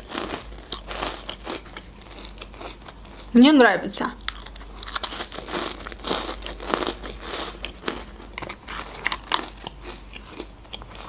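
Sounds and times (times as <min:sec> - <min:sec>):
biscuit crunching: 0:00.0 - 0:03.4, 0:04.2 - 0:11.0.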